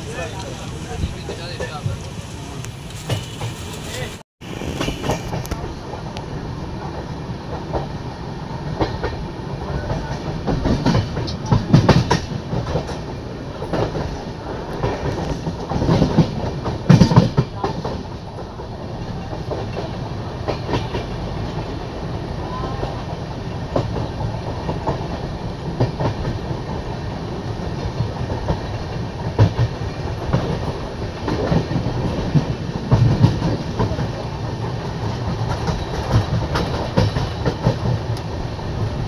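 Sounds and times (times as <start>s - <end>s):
train rumbling: 0.0s - 39.0s
wheels clacking over rail joints: 0.0s - 39.0s.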